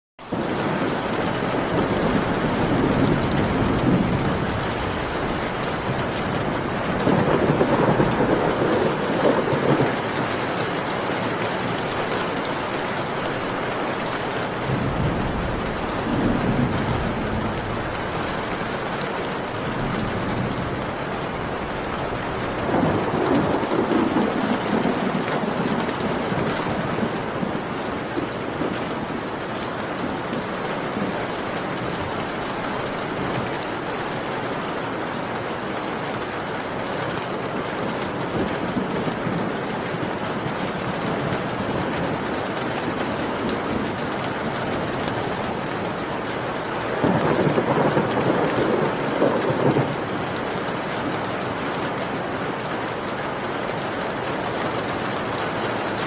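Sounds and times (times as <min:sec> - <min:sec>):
steady rain: 0:00.2 - 0:56.0
thunder rumbling: 0:00.3 - 0:34.4, 0:35.0 - 0:56.0.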